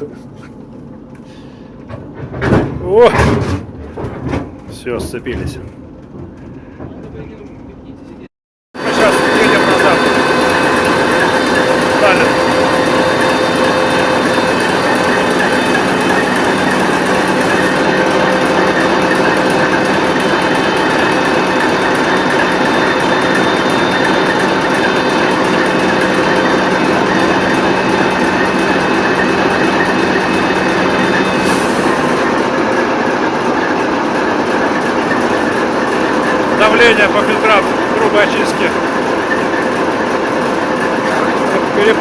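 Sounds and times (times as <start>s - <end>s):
diesel locomotive droning: 5.1s - 42.0s.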